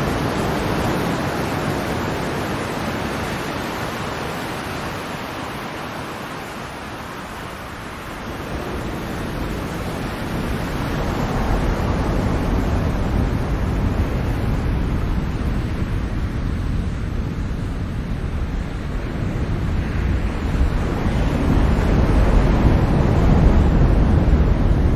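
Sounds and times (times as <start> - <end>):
ocean waves rumbling: 0.0 - 24.9.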